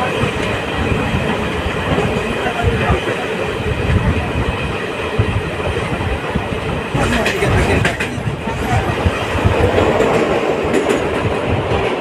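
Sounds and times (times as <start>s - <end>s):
train wheels rumbling and rattling: 0.0s - 12.0s.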